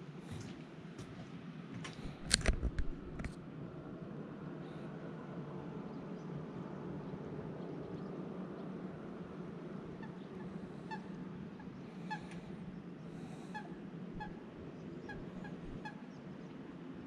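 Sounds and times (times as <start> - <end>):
low background rush: 0.0 - 17.0.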